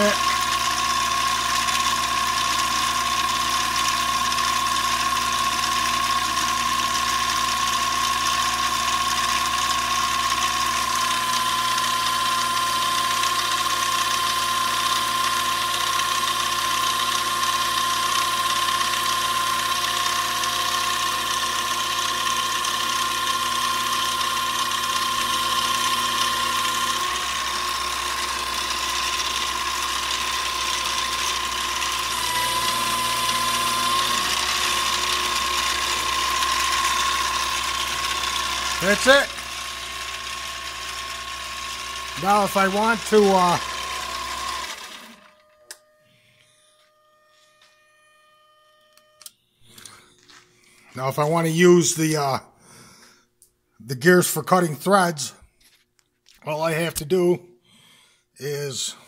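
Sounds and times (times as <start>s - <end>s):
lathe whine with gear noise: 0.0s - 50.4s.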